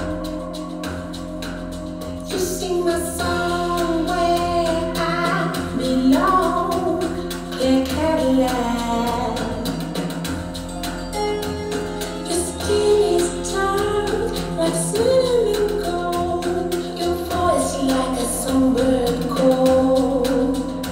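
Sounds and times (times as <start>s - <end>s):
person singing: 0.0s - 10.4s, 12.2s - 20.9s.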